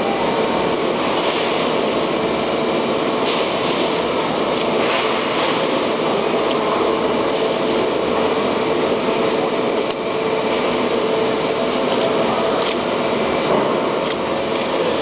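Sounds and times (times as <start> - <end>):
faint constant hum: 0.0 - 15.0
mechanical background noise: 0.0 - 15.0.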